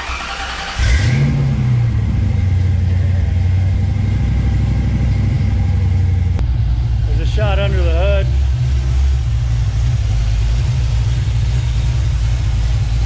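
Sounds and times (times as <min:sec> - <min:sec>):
car engine starting and idling: 0:00.0 - 0:13.0.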